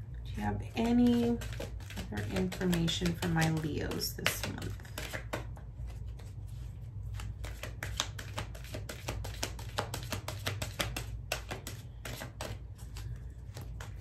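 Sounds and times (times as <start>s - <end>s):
steady low hum: 0.0s - 14.0s
cards being shuffled: 0.9s - 14.0s.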